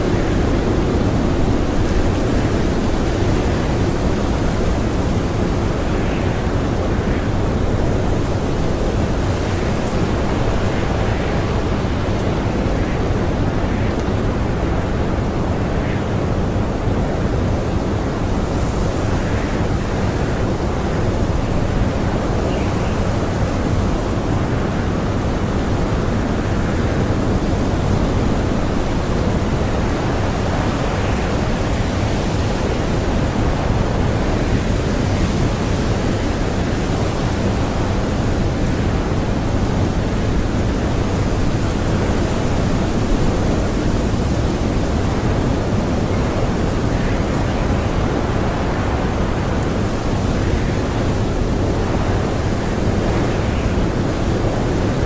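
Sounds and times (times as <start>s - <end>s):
strong blizzard wind: 0.0s - 55.0s.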